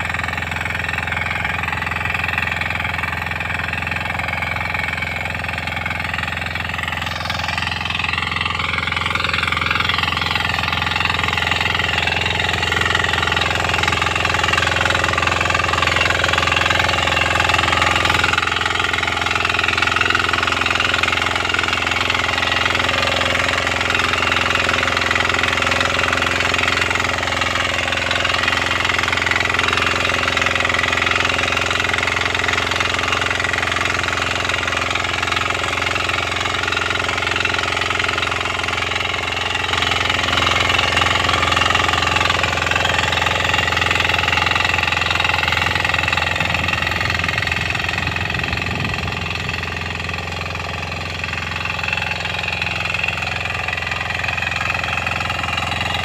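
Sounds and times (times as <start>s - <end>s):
diesel power weeder running: 0.0s - 56.0s.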